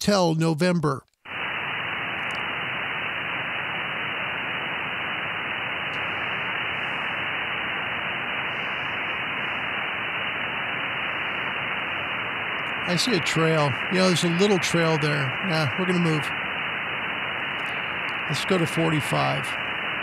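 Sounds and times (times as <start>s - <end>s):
radio receiver hiss: 0.1s - 20.0s.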